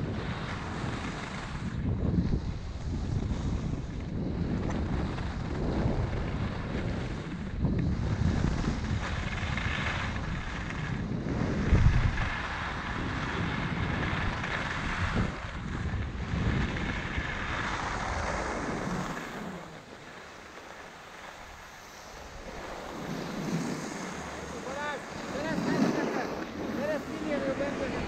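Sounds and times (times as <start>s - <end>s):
skis sliding over snow: 0.0s - 28.0s
wind buffeting microphone: 0.0s - 28.0s.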